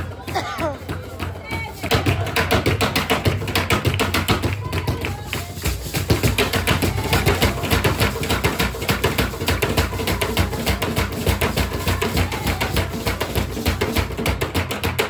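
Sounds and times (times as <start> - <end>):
deep drum beats: 0.0 - 15.0
fast drumming: 0.0 - 15.0.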